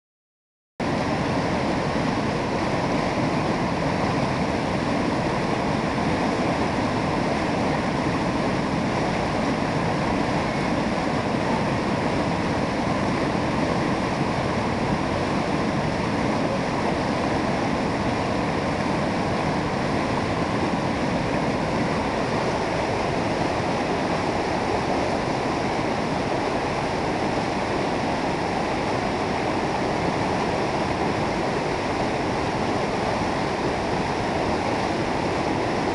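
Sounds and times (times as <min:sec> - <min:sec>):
river rushing over rocks: 0:00.8 - 0:35.9.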